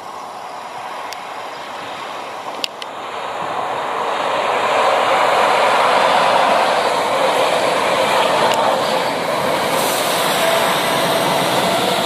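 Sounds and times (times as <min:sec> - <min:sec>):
diesel train approaching: 0:00.0 - 0:12.0.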